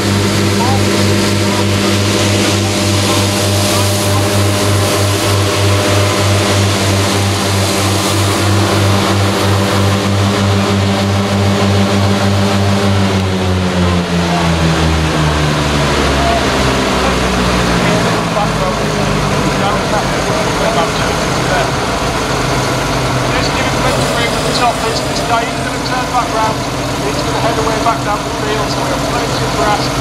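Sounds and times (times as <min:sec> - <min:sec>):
tractor engine at high revs: 0:00.0 - 0:30.0
whirring rush of disc mowers: 0:00.0 - 0:30.0.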